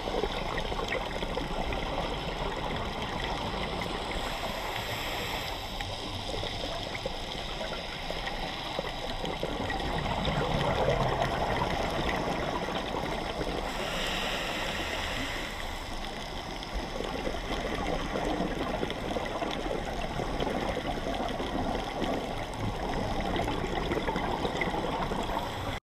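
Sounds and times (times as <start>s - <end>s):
fine underwater crackle: 0.0s - 25.8s
underwater gurgling water: 0.0s - 25.8s.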